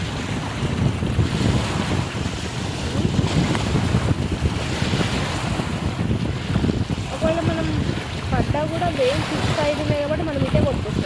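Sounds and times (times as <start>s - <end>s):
waves washing in: 0.0s - 11.0s
wind buffeting microphone: 0.0s - 11.0s.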